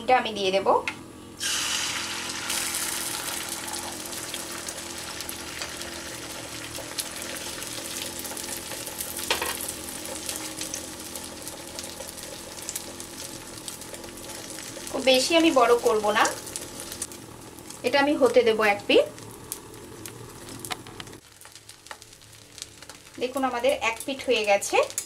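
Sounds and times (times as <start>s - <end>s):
egg sizzling in hot oil: 1.4s - 25.0s
omelette frying with crackles: 1.4s - 25.0s.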